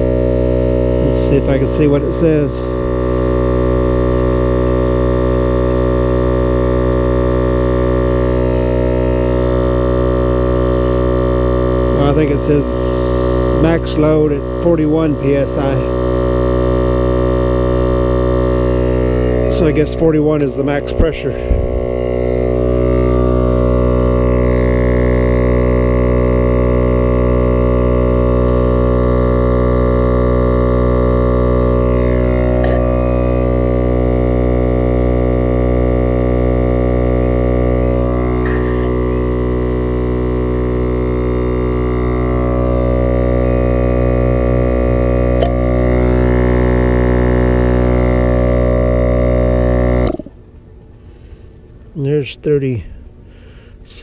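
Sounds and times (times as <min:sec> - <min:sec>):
air compressor humming: 0:00.0 - 0:54.0.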